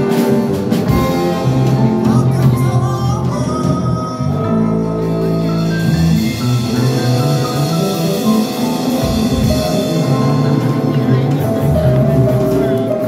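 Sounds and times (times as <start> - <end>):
drum kit: 0.0 - 13.0
electric guitar: 0.0 - 13.0
live band playing: 0.0 - 13.0.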